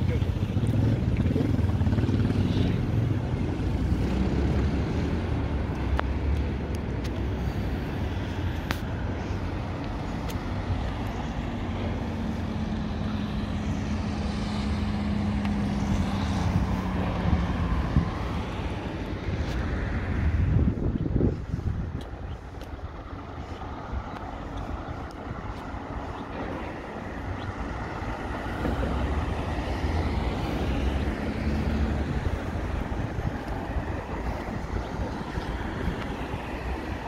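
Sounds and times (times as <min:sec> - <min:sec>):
motor vehicles passing: 0:00.0 - 0:37.0.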